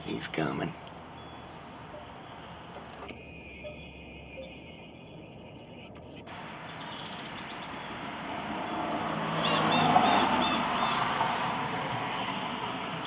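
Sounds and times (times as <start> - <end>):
bird chirping: 0.0 - 11.2
vehicle passing: 0.0 - 13.0.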